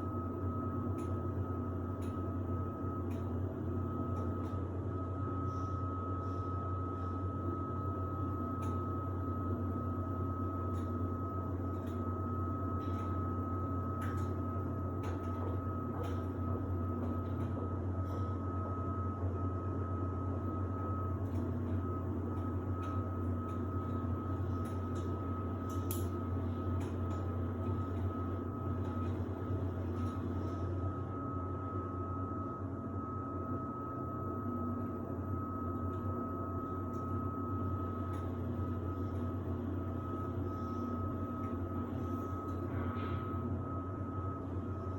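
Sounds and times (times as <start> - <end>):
washer-dryer running: 0.0 - 44.9.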